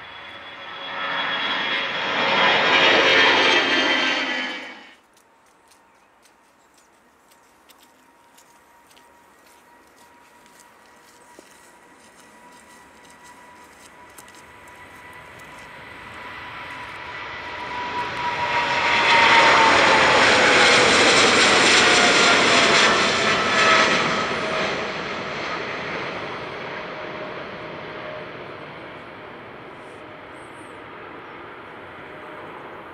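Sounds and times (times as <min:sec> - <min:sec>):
jet engines roaring at takeoff: 0:00.0 - 0:05.0, 0:09.7 - 0:32.9.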